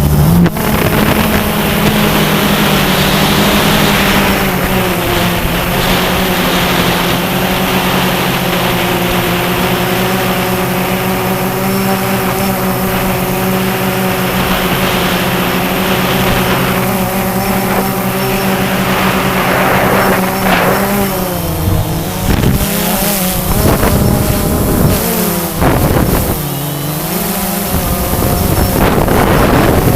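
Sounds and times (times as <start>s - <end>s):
drone propellers whirring: 0.0s - 29.9s.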